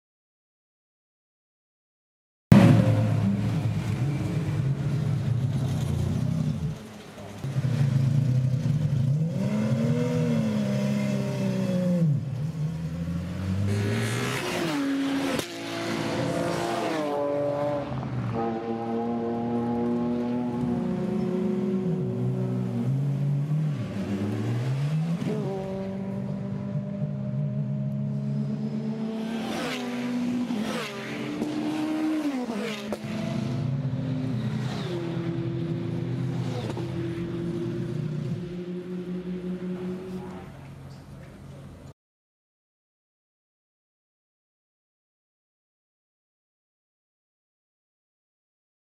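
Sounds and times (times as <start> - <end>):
race car engine: 2.5 - 41.9.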